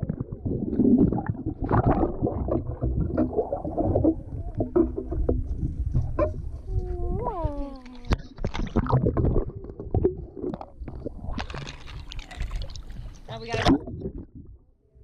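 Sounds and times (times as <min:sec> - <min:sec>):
water sloshing and splashing: 0:00.0 - 0:14.6.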